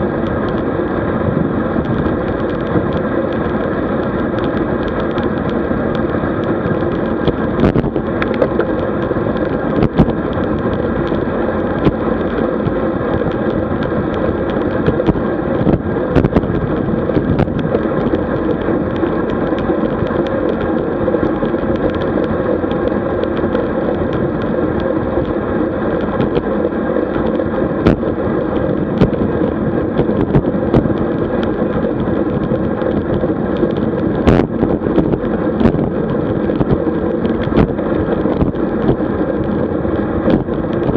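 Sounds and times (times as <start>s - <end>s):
bicycle tyre noise: 0.0s - 40.9s
wind rush on microphone: 0.0s - 40.9s
sharp ticks and rattles: 1.7s - 40.9s.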